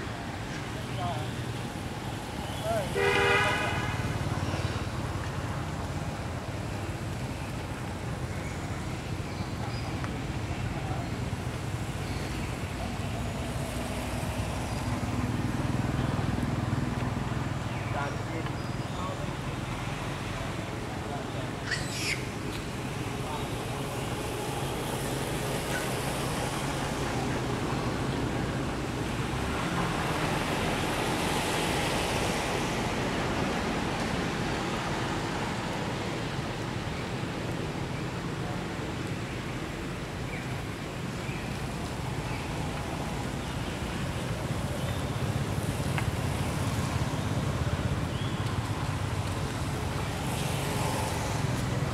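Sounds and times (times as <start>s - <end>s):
steady outdoor rushing noise: 0.0s - 51.9s.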